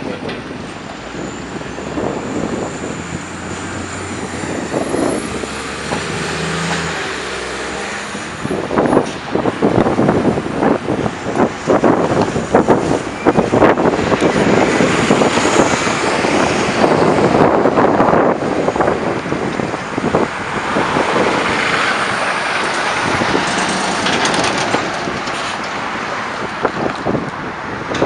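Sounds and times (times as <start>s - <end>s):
bus engine and tyre noise: 0.0s - 28.0s
cars passing: 0.0s - 28.0s.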